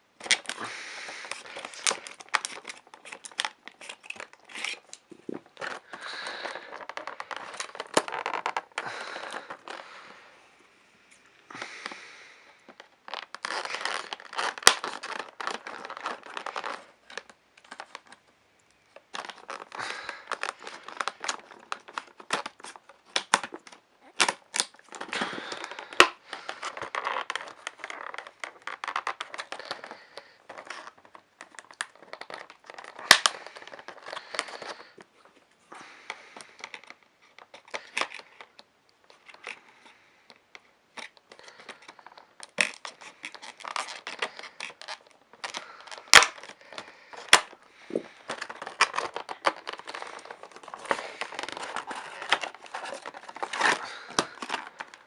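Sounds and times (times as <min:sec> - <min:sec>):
packaging crinkling and tearing: 0:00.2 - 0:10.0, 0:11.5 - 0:18.3, 0:18.9 - 0:55.0.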